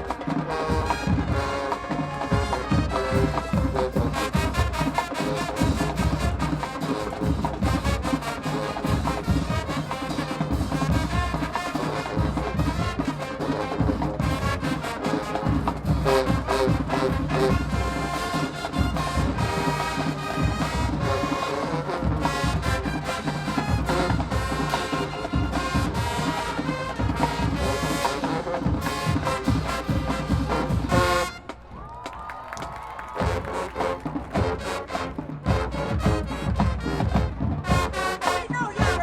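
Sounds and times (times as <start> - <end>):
pounding drums: 0.0 - 31.7, 33.1 - 39.0
brass horns: 0.0 - 31.8, 32.9 - 39.0.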